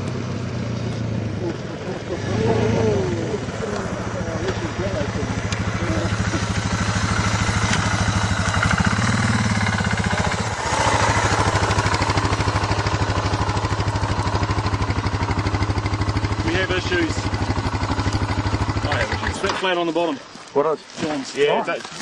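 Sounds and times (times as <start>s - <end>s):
motorcycle engine idling: 0.0s - 19.7s.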